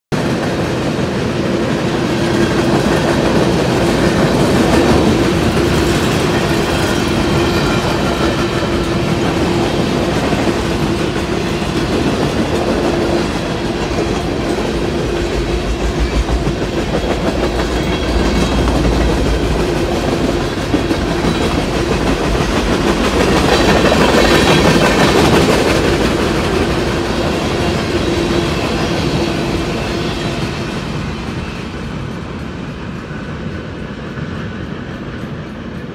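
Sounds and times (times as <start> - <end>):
train wheels on rails: 0.1 - 35.9.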